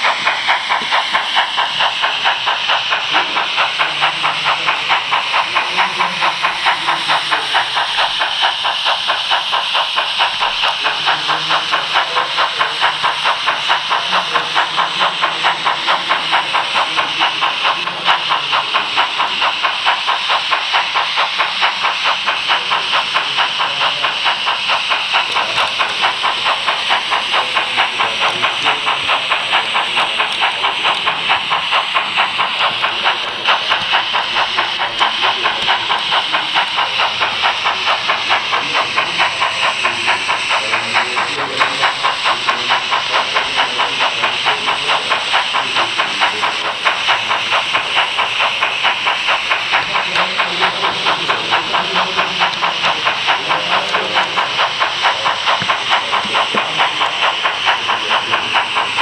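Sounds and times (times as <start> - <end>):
model train running on track: 0.0 - 59.0.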